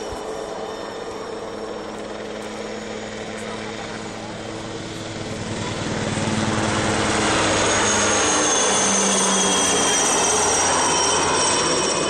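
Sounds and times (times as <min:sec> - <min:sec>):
helicopter rotor chop: 0:00.0 - 0:12.0
high turbine whine: 0:00.0 - 0:12.0.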